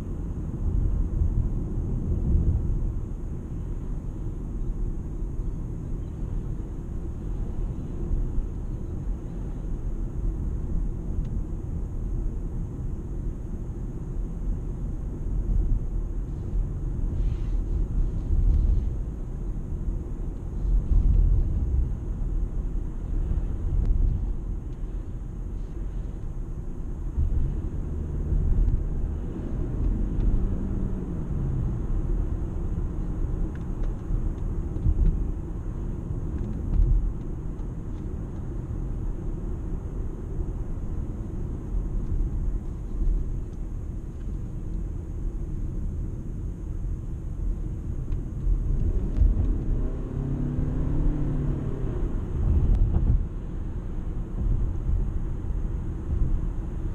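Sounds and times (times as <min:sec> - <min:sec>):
car road and drive rumble: 0:00.0 - 0:56.9.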